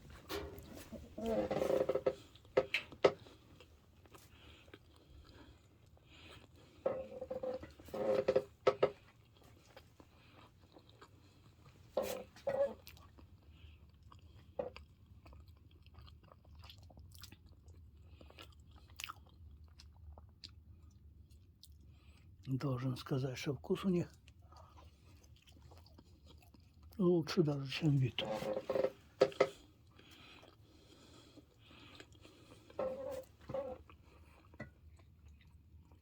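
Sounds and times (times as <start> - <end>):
person chewing dried fruit: 0.0 - 36.0.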